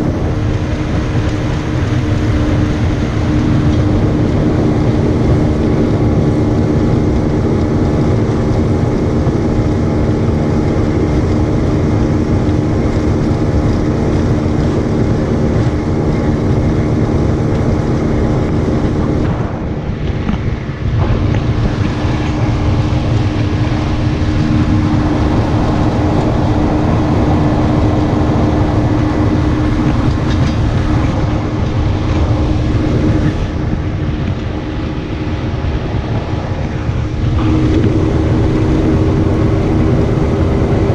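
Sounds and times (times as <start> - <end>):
boat motor running: 0.0 - 40.9
rush of wind and water: 0.0 - 40.9.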